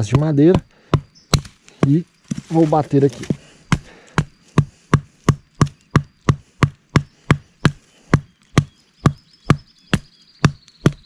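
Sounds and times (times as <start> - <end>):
wooden mallet knocking stake: 0.0 - 11.0.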